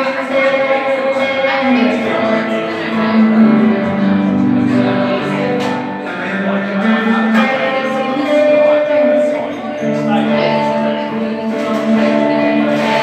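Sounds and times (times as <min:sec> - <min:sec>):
guitar plucked and strummed: 0:00.0 - 0:13.0.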